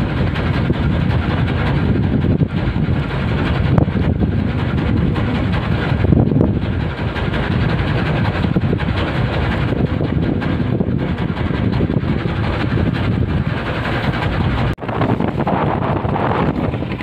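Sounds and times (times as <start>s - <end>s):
boat engine running: 0.0s - 17.0s
sea noise: 0.0s - 17.0s
wind: 0.0s - 17.0s.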